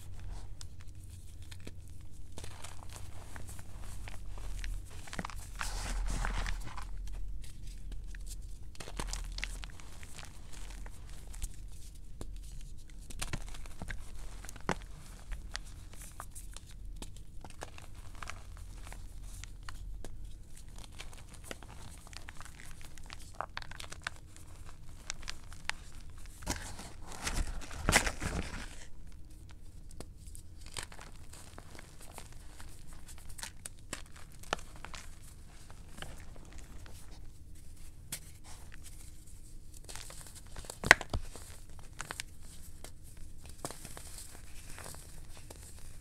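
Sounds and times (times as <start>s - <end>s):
chalk crumbling between hands: 0.0s - 46.0s.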